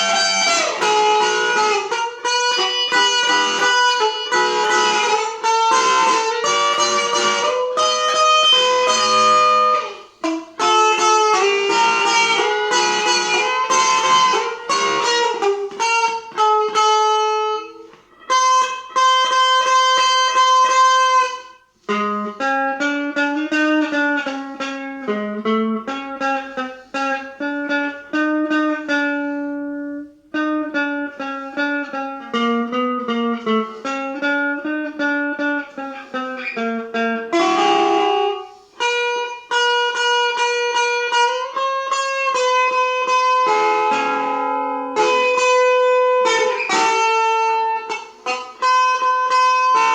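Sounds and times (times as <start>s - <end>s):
guitar plucking slow melody: 0.0s - 49.9s.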